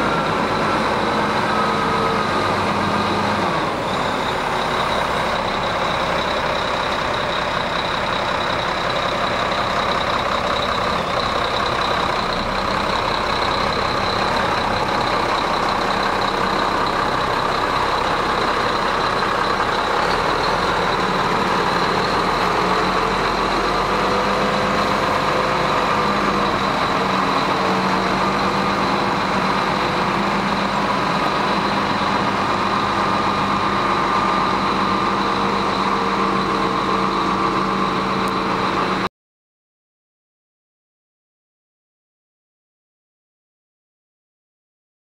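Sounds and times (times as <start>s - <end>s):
diesel truck engine running: 0.0s - 39.1s.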